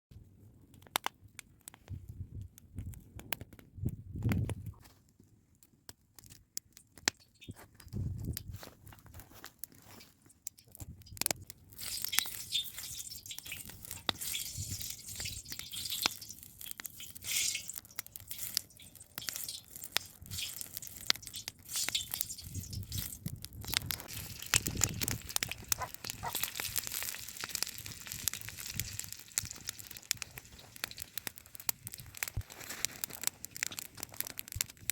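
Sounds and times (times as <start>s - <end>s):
campfire crackling and popping: 0.1s - 34.9s.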